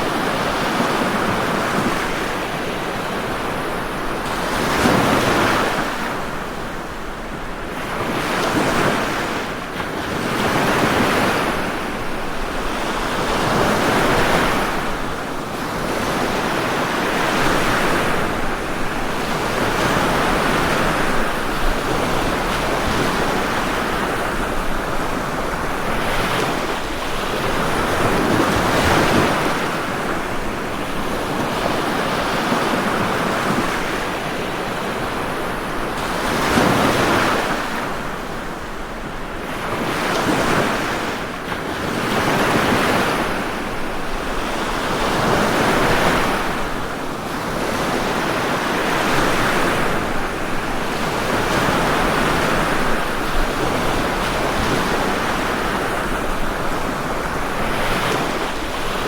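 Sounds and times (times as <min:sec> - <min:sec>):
ocean waves washing onto shore: 0:00.0 - 0:59.0.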